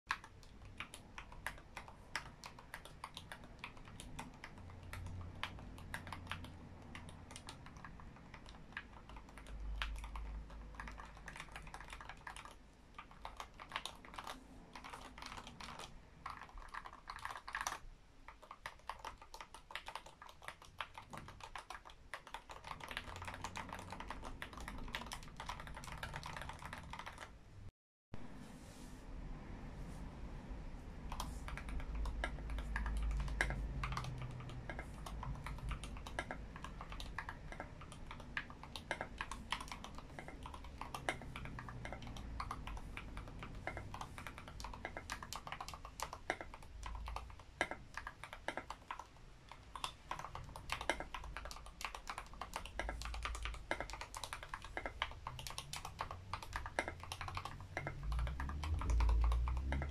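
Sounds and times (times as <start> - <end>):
fast mechanical keyboard typing: 0.1 - 27.4, 31.0 - 59.9.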